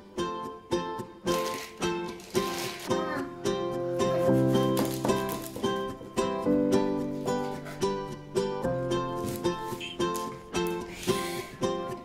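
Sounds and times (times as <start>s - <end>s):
upbeat plucked string music: 0.0s - 12.0s.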